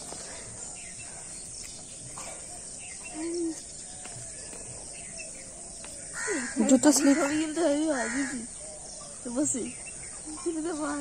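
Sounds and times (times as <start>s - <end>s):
faint bird chirps: 0.0s - 11.0s
insects droning: 0.0s - 11.0s.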